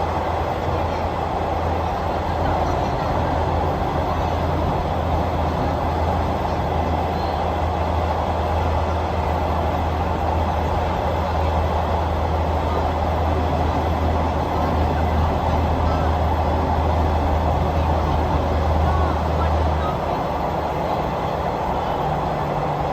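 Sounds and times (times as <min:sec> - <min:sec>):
diesel train rumbling along track: 0:00.0 - 0:22.9.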